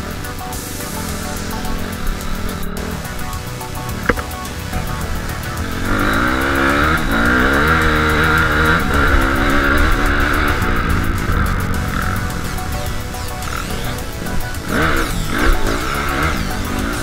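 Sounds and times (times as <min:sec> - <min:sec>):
background music: 0:00.0 - 0:17.0
dirt bike engine revving: 0:00.0 - 0:17.0.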